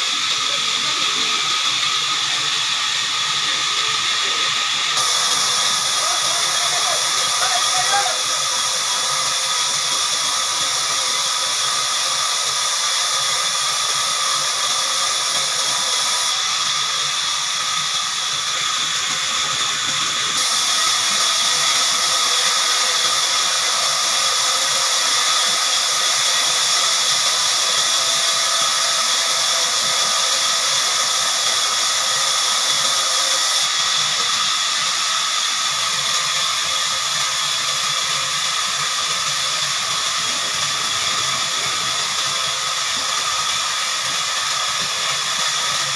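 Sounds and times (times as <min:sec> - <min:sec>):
band sawmill running: 0:00.0 - 0:45.9.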